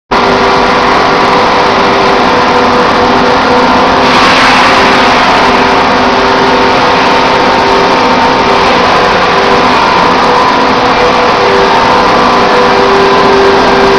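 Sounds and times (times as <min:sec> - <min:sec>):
industrial machinery droning: 0:00.1 - 0:13.9.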